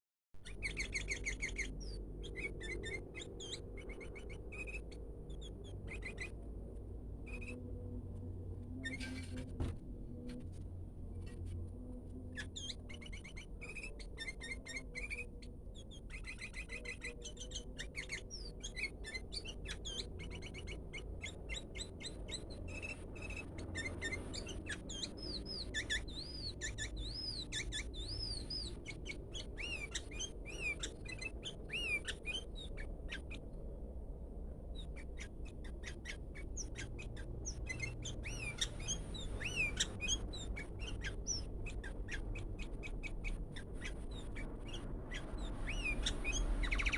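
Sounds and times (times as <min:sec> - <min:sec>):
bird chirping and whistling: 0:00.4 - 0:06.4, 0:07.2 - 0:07.9, 0:08.7 - 0:09.5, 0:12.3 - 0:33.4, 0:34.8 - 0:46.9
steady low hum: 0:00.4 - 0:46.9.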